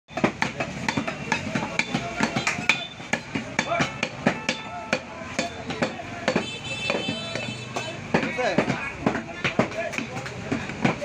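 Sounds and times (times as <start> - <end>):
market chatter: 0.1 - 11.0.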